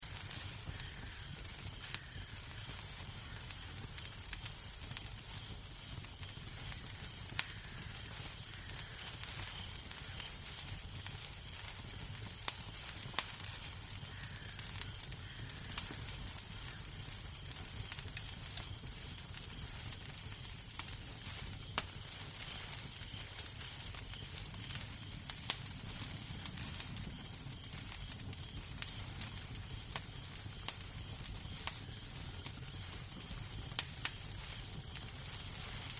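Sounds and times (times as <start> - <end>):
fire popping: 0.0 - 35.9
low rumble of burning fire: 0.0 - 35.9.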